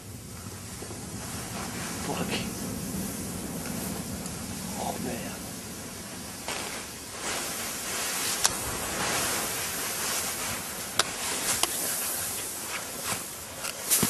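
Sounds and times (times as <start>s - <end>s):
snow sliding hiss: 0.0s - 14.0s.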